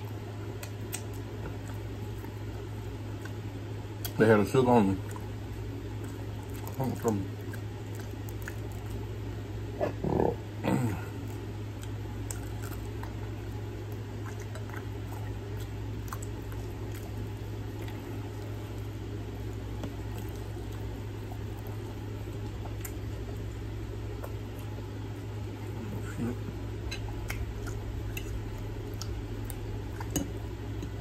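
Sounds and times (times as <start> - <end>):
wet chewing and mouth clicks: 0.0 - 4.2, 4.9 - 9.3, 11.1 - 31.0
steady low hum: 0.0 - 31.0.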